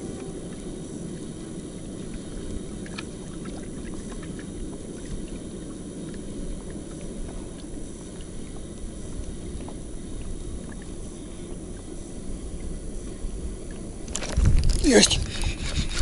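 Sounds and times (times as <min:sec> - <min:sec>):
waves lapping against boat hull: 0:00.0 - 0:16.0.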